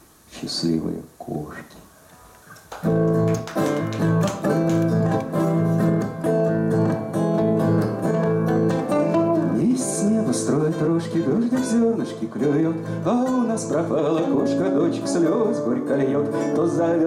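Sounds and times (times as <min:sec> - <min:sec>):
acoustic guitars strumming: 0:02.4 - 0:17.0.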